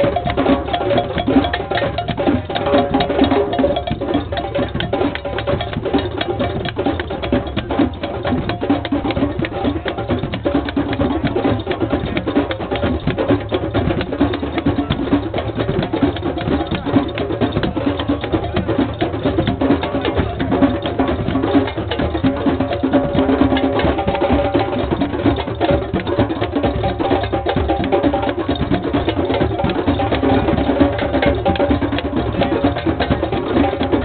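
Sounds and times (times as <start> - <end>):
hand drums playing: 0.0 - 34.0.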